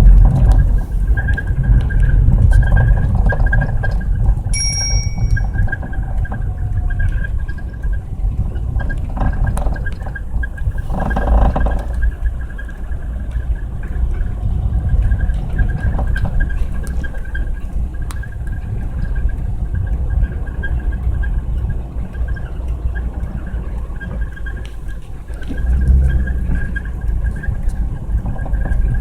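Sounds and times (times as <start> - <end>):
engine and tyres rumbling: 0.0 - 29.0
faint rapid high ticking: 0.0 - 29.0.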